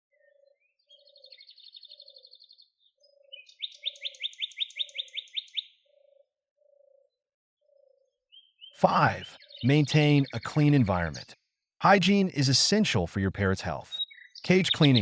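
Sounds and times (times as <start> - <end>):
bird chirping: 0.1 - 12.5, 13.5 - 15.0.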